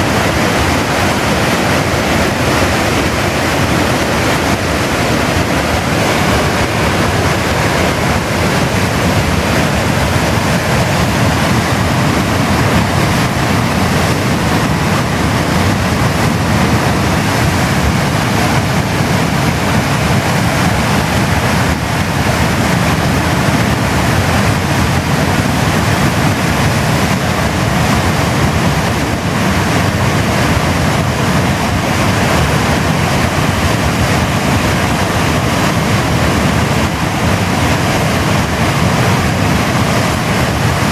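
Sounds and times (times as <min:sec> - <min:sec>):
river rushing over a weir: 0:00.0 - 0:40.9.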